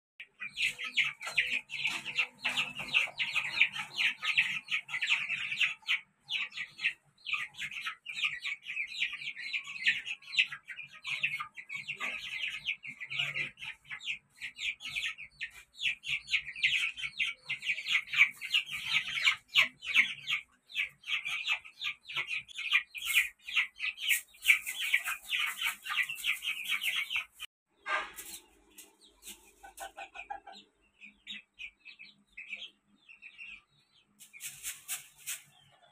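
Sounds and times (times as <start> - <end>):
chickens clucking: 0.2 - 35.9
chicks chirping and peeping: 0.2 - 35.9.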